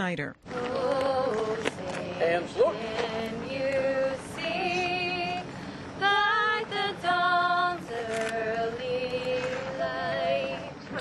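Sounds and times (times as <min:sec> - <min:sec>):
woman singing slow song: 0:00.5 - 0:11.0.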